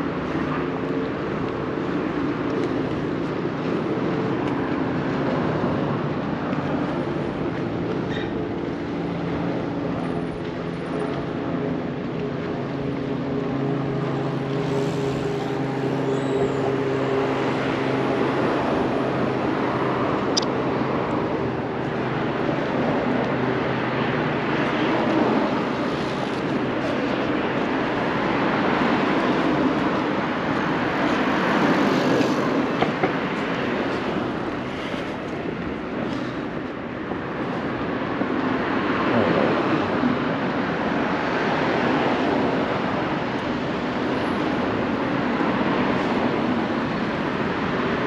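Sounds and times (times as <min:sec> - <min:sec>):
passing traffic: 0:00.0 - 0:48.0
vehicle engine humming: 0:00.0 - 0:48.0.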